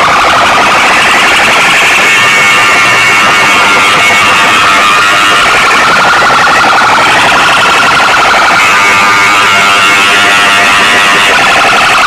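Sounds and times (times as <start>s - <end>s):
distorted buzzing electronic tone: 0.0s - 12.0s.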